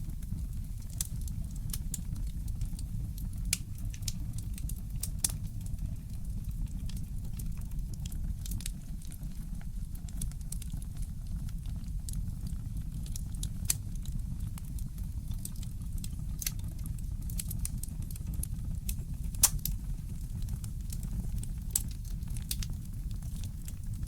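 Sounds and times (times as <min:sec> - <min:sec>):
fireplace crackling: 0:00.0 - 0:11.8, 0:12.7 - 0:24.0.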